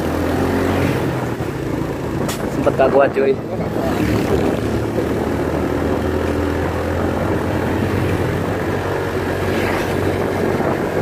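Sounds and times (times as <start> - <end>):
motorcycle engine droning: 0.0 - 11.0
wind and road noise: 0.0 - 11.0.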